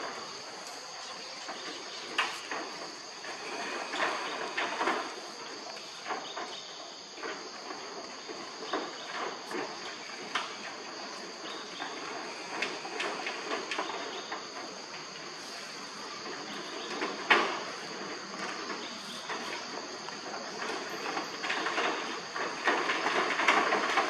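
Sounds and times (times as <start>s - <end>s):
insects droning: 0.0s - 24.0s
monkeys moving on metal roof: 0.0s - 24.0s.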